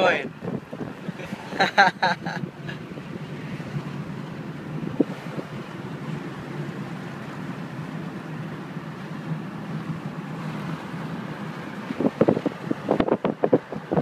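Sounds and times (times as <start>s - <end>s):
car road and engine noise: 0.0s - 14.0s
wind gusts through car window: 0.0s - 14.0s.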